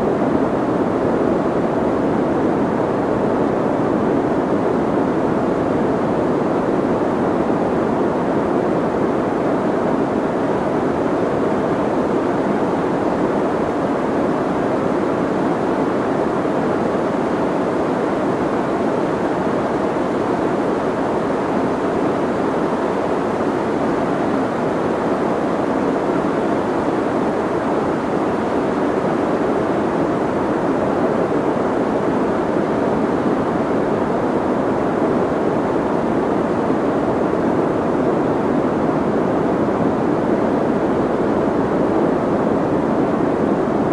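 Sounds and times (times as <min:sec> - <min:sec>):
soft muffled white noise: 0:00.0 - 0:43.9.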